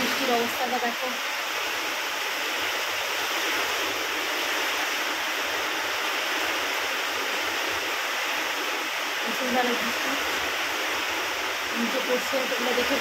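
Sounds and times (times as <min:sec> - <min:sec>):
heavy rain on concrete roof: 0:00.0 - 0:13.0.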